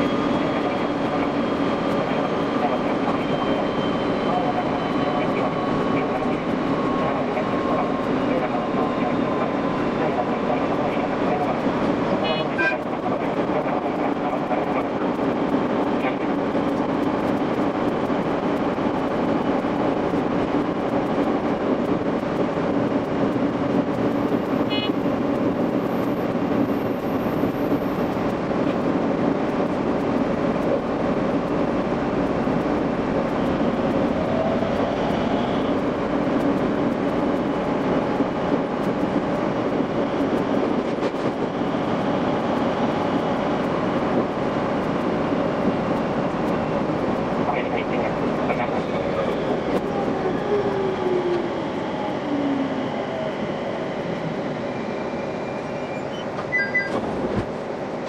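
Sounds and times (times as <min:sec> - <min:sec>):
train wheels rumbling and rattling: 0:00.0 - 0:58.0.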